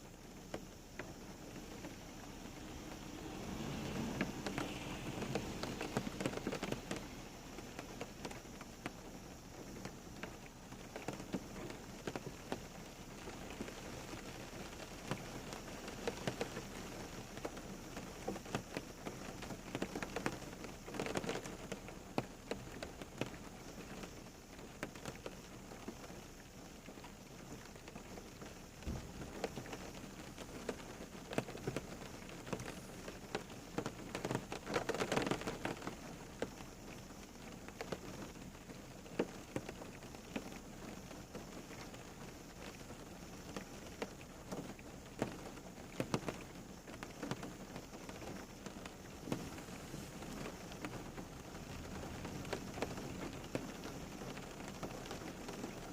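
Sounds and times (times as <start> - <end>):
rain pattering on hard surface: 0.0 - 55.9.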